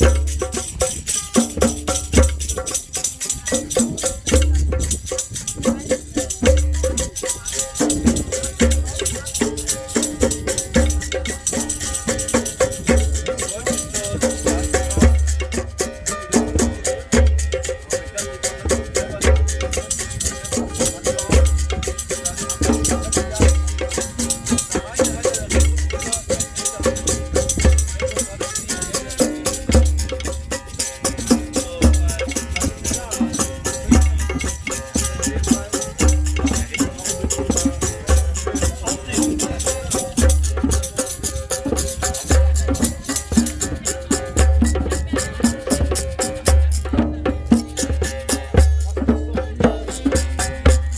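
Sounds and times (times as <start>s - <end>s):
low drum beat: 0.0s - 50.9s.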